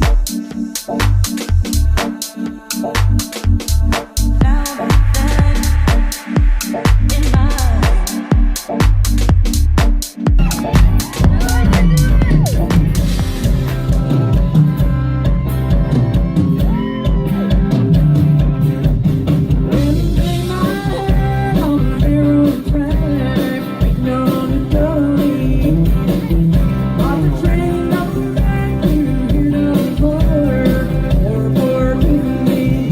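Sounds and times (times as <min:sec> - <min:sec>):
person singing: 0:00.0 - 0:09.2, 0:10.1 - 0:17.7, 0:19.7 - 0:32.9
guitar: 0:00.0 - 0:32.9
rock and roll song: 0:00.0 - 0:32.9
steady beat: 0:00.0 - 0:32.9.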